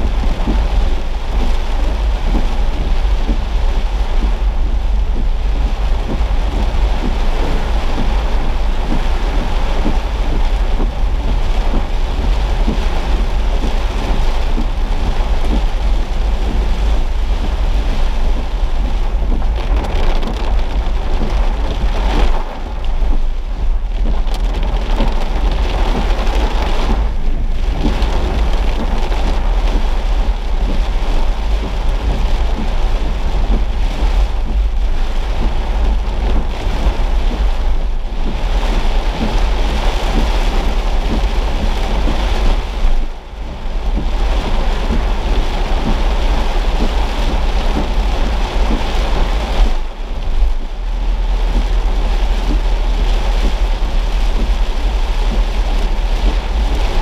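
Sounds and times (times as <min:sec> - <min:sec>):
heavy rain on car: 0:00.0 - 0:57.0
low rumble of car: 0:00.0 - 0:57.0.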